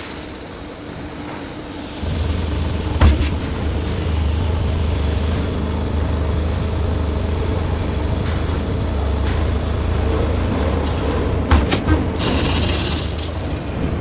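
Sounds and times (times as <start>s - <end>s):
faint high whine: 0.0s - 13.9s
low machine hum: 0.9s - 14.0s.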